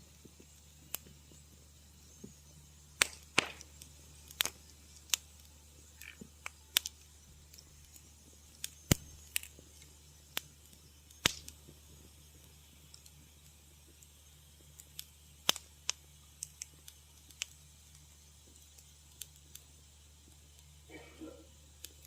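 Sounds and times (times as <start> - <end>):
faint low hum: 0.0 - 22.0
wood fire crackling: 0.0 - 22.0.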